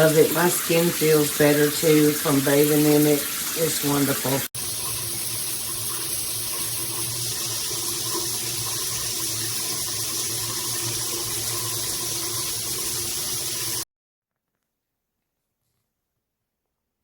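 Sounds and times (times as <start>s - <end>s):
shower water spraying: 0.0s - 13.8s.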